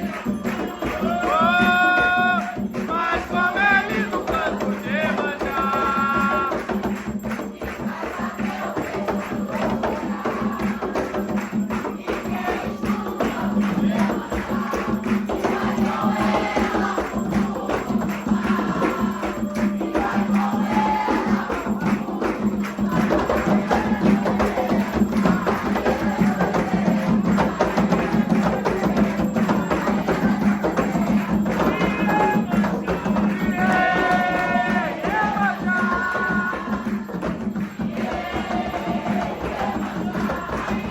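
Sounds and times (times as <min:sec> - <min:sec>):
fast hand percussion: 0:00.0 - 0:40.9
voices singing: 0:00.0 - 0:40.9.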